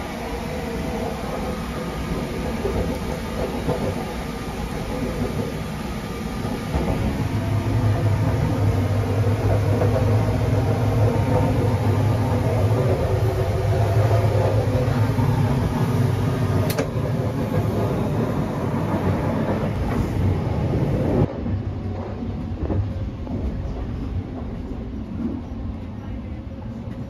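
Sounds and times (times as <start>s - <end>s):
train running hum and rumble: 0.0s - 27.0s.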